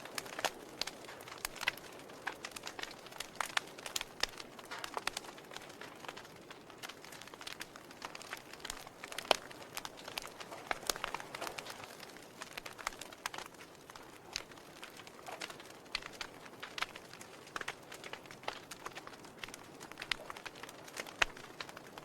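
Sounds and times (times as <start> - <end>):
logs crackling in fireplace: 0.0 - 22.0
sharp fire pops: 0.0 - 22.0
soft fire hiss: 0.0 - 22.0.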